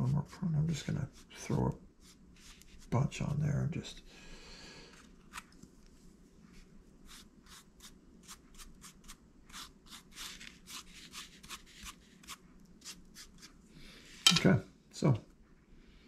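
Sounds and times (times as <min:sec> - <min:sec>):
scratchy brush strokes: 0:00.0 - 0:03.5, 0:04.9 - 0:14.3.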